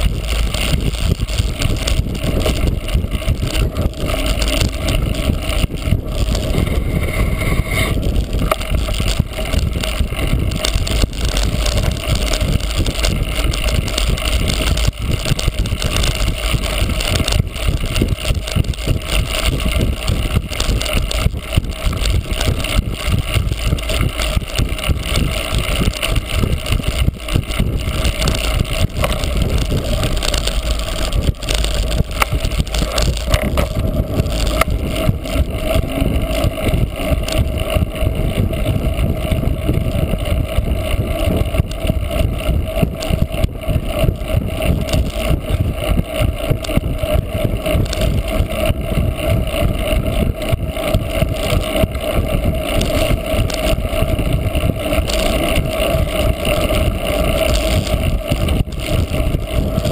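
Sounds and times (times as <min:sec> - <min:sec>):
bike rattling and knocking: 0:00.0 - 0:59.9
wind on microphone: 0:00.0 - 0:59.9.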